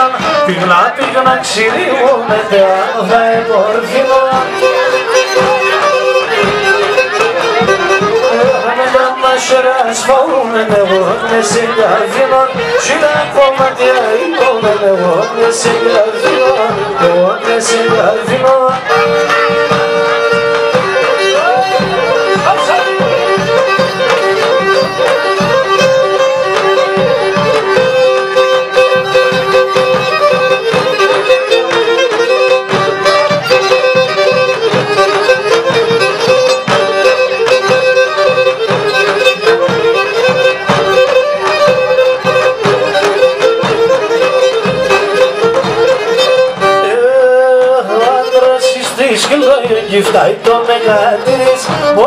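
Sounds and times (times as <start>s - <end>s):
bowed lyra dance melody: 0.0s - 52.0s
steady beat: 0.0s - 52.0s.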